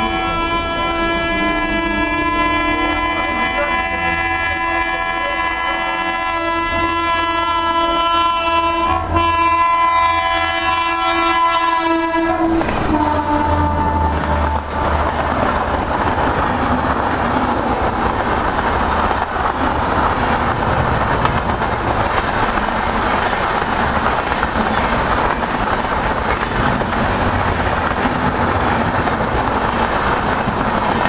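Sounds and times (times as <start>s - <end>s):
train wheels rushing on rail: 0.0s - 31.0s.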